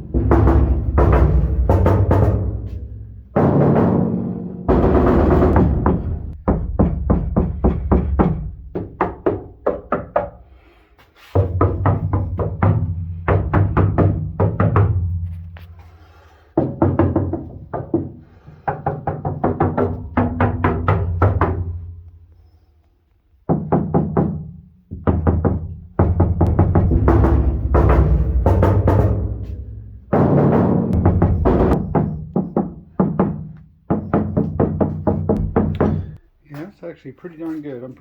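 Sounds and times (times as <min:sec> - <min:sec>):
rapid knocking on sheet metal: 0:00.0 - 0:10.4, 0:11.4 - 0:15.3, 0:16.6 - 0:22.0, 0:23.5 - 0:36.2.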